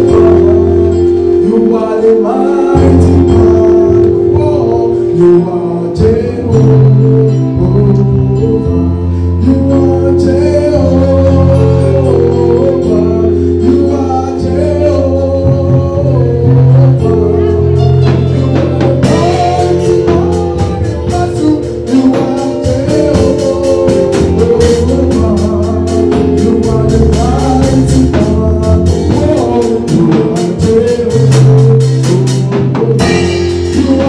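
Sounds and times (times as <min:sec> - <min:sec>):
bass line: 0:00.0 - 0:34.0
gospel singing: 0:00.0 - 0:34.0
held chords: 0:00.0 - 0:34.0.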